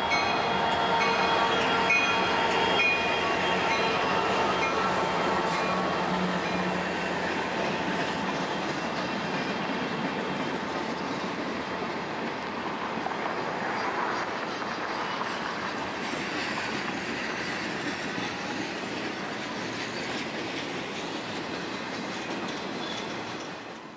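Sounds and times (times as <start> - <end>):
train rumbling on rails: 0.0 - 23.9.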